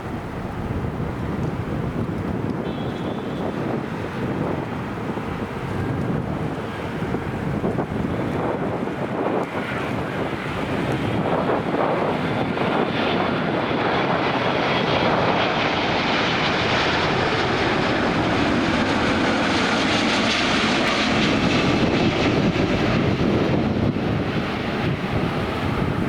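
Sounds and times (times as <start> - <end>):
jet airliner landing: 0.0 - 26.0.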